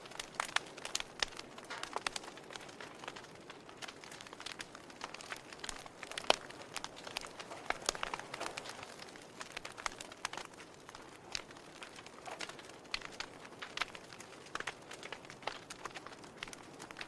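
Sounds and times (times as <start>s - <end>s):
faint fire hiss: 0.0s - 17.0s
wood fire crackling and popping: 0.0s - 17.0s.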